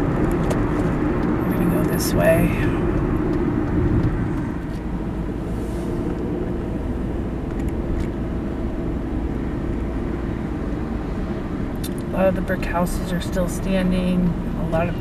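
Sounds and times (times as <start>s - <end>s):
car engine rumble: 0.0s - 15.0s
tyres on road: 0.0s - 15.0s.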